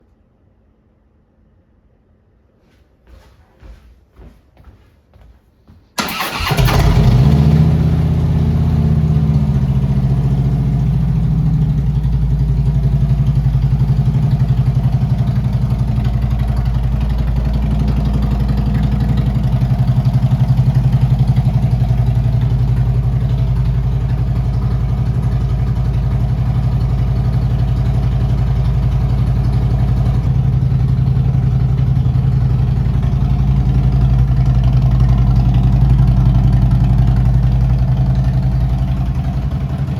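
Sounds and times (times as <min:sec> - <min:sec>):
motorcycle engine starting and idling: 0:06.0 - 0:39.9.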